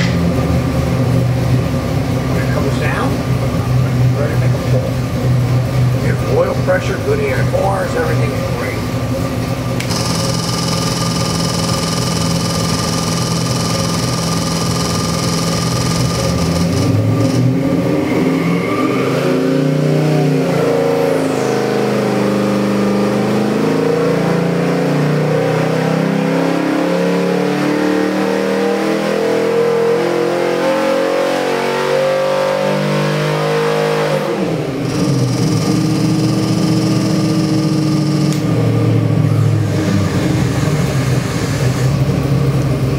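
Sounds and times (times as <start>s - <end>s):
engine revving at full throttle: 0.0s - 42.9s.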